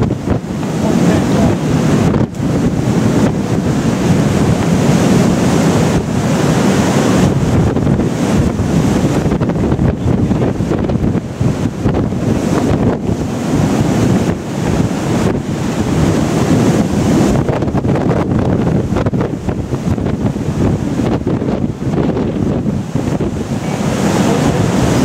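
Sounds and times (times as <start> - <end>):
sea waves breaking along hull: 0.0 - 25.0
strong wind buffeting microphone: 0.0 - 25.0.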